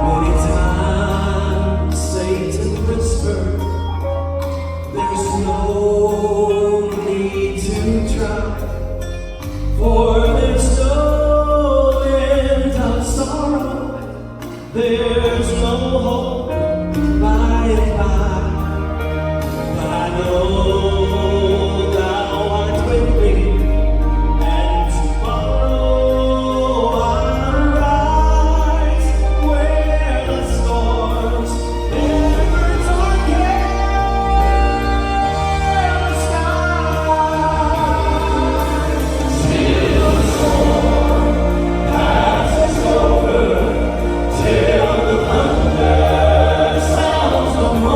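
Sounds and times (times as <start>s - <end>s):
gospel vocal group singing: 0.0s - 4.0s, 4.9s - 47.9s
instrumental accompaniment with bass: 0.0s - 47.9s.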